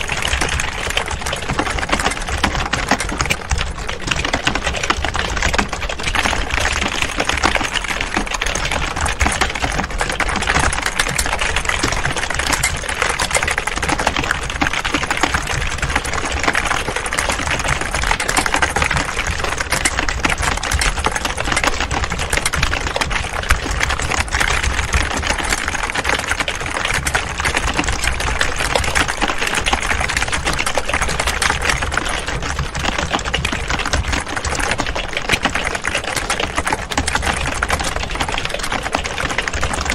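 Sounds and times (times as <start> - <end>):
keyboards typing clatter: 0.0 - 39.9.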